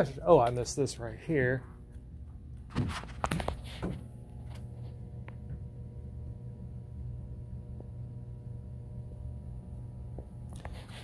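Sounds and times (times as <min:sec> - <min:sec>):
low indoor hum: 0:00.0 - 0:11.0.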